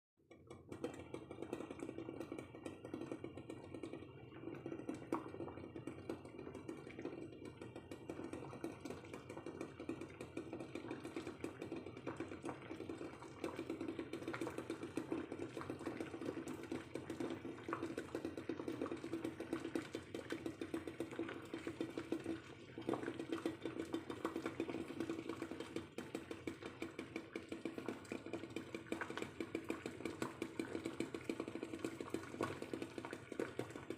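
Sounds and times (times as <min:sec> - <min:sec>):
water bubbling in a pot: 0:00.2 - 0:33.9.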